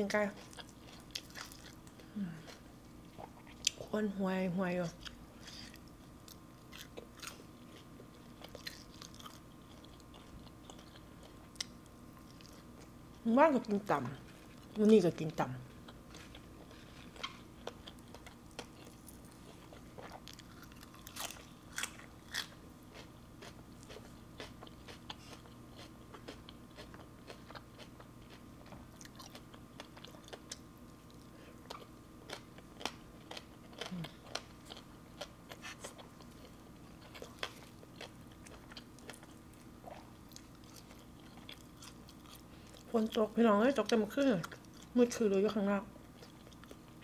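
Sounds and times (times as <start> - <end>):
faint steady hum: 0.0 - 47.0
crunchy bites and chewing: 0.4 - 3.8, 5.0 - 12.9, 15.8 - 42.9.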